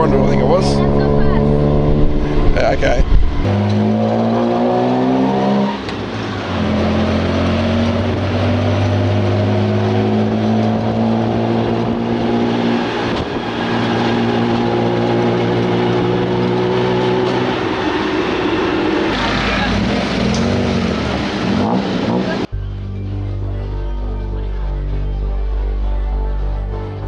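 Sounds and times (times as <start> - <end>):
road and wind noise: 0.0 - 23.4
tuk-tuk engine pulling: 0.0 - 27.0.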